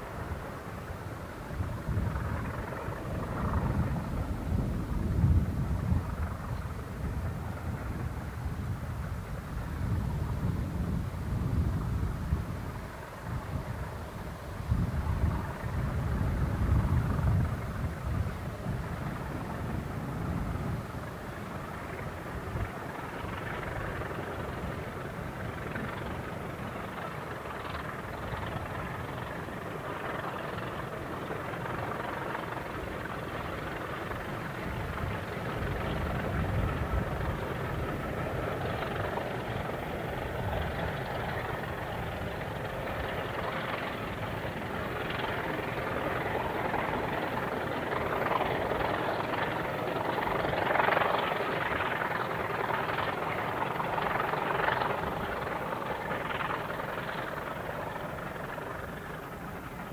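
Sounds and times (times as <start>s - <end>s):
distant diesel locomotives throbbing: 0.0s - 59.9s.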